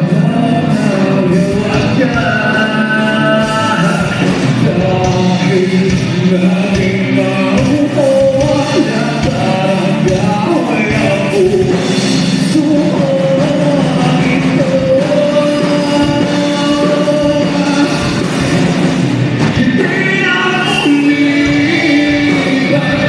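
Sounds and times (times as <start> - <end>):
live band through pa: 0.0 - 23.0.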